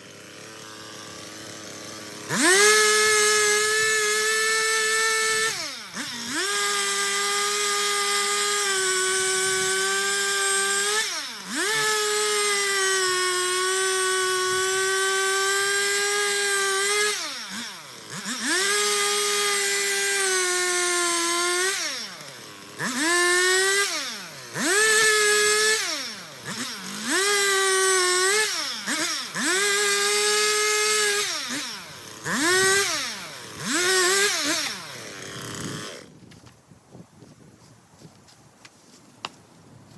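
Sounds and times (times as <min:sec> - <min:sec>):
chainsaw revving: 0:00.0 - 0:36.2.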